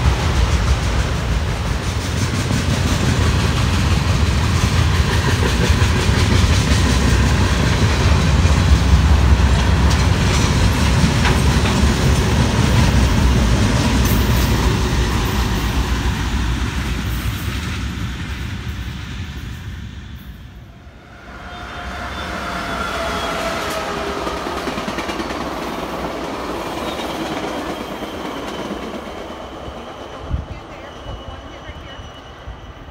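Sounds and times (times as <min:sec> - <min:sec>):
diesel locomotives rumbling: 0:00.0 - 0:32.9
rail cars rolling: 0:00.0 - 0:32.9.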